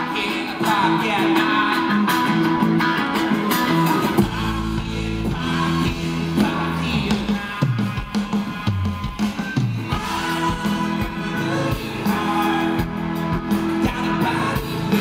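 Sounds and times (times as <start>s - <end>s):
bass guitar: 0.0s - 15.0s
drums: 0.0s - 15.0s
electric guitar: 0.0s - 15.0s
man singing lead: 0.0s - 15.0s.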